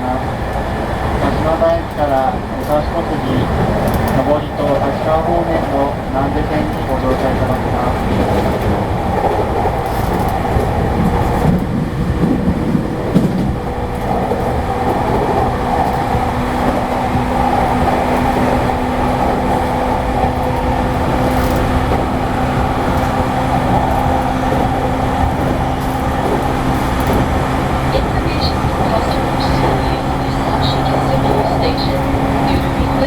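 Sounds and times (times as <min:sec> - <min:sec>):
humming tones from running gear: 0:00.0 - 0:33.0
train wheels rumbling on track: 0:00.0 - 0:33.0.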